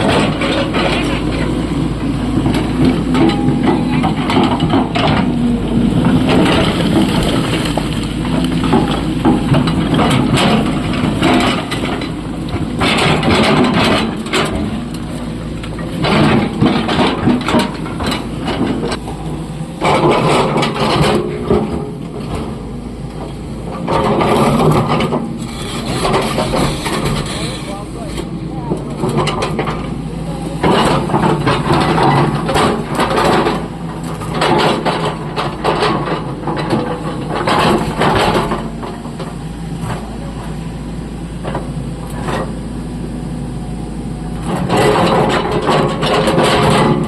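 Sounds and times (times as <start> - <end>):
excavator diesel engine: 0.0 - 47.0.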